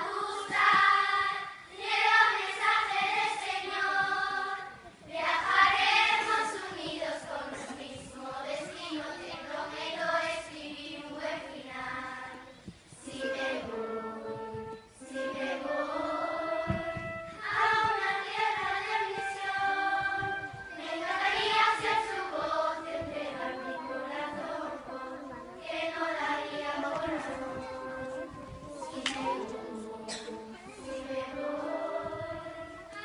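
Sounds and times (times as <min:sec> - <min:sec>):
children's choir singing: 0:00.0 - 0:33.0.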